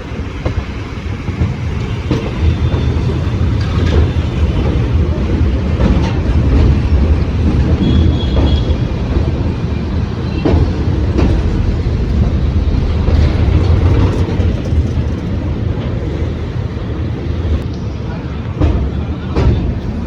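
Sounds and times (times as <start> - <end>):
wheels clicking over track: 0.0 - 17.8
train rumbling at speed: 0.0 - 20.0.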